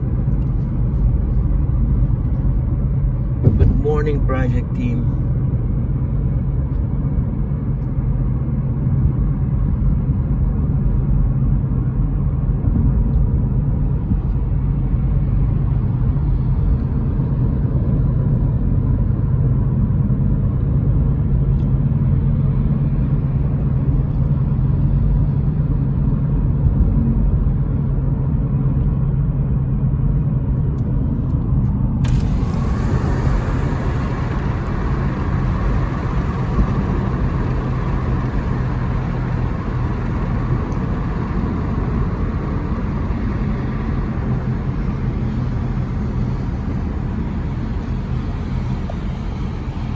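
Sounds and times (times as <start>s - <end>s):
road and engine rumble: 0.0s - 49.9s.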